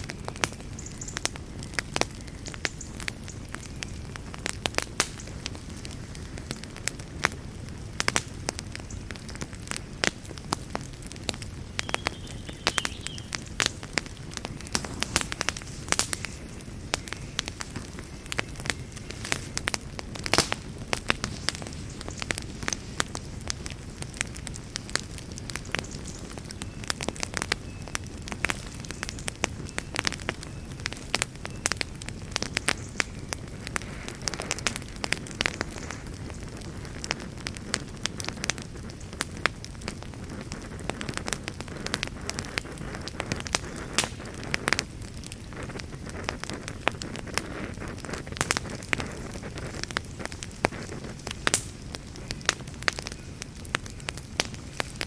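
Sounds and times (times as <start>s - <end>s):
campfire flame rumble: 0.0s - 55.0s
wood crackling and popping: 0.0s - 55.0s.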